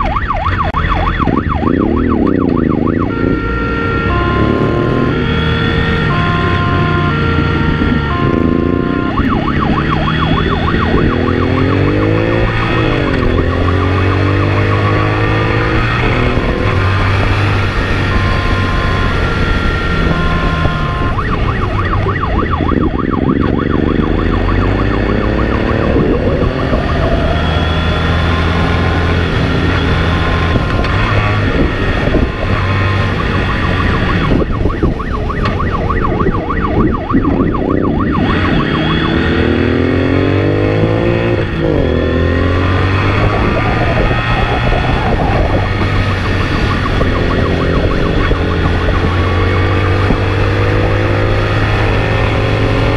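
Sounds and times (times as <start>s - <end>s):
motorcycle engine revving: 0.0s - 52.9s
siren warbling: 0.0s - 52.9s.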